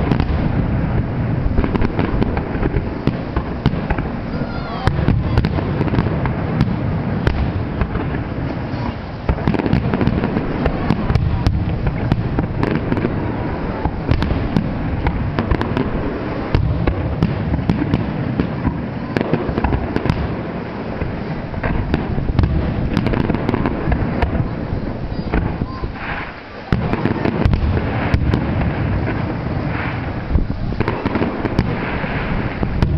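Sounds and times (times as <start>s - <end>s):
fireworks bangs and crackling: 0.0s - 32.9s.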